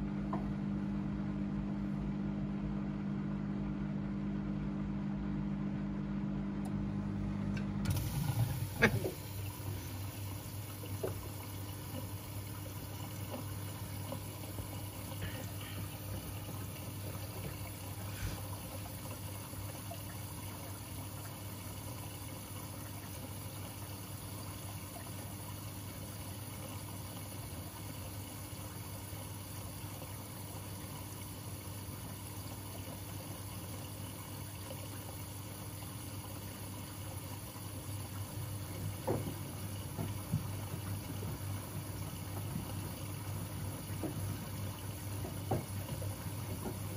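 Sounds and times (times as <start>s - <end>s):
washing machine humming: 0.0s - 46.9s
water running inside machine: 0.0s - 46.9s.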